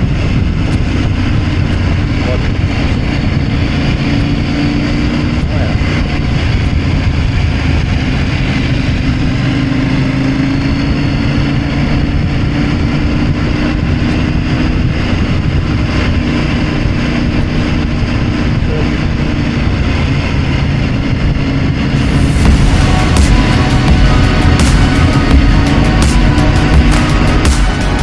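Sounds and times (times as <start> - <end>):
motorcycle engine cruising: 0.0 - 28.0
road and wind noise: 0.0 - 28.0.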